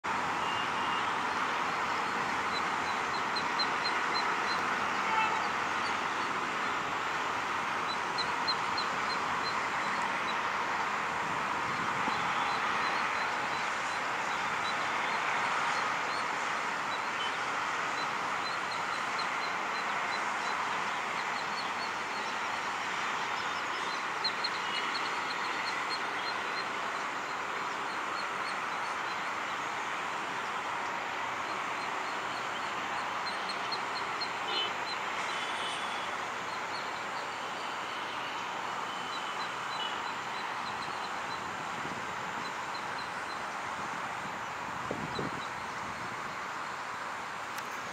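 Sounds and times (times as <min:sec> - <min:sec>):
steady background noise: 0:00.0 - 0:47.9.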